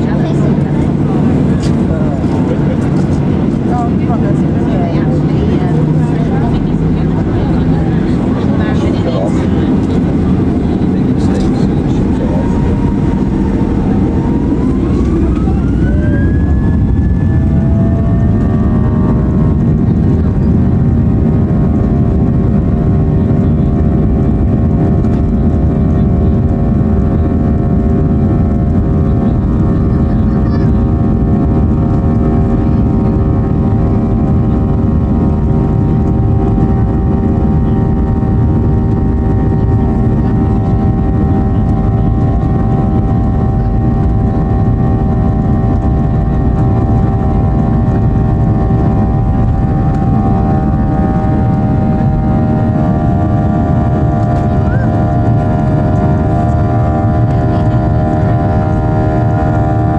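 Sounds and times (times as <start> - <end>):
jet engines low rumble: 0.0 - 59.9
steady engine whine: 0.0 - 59.9.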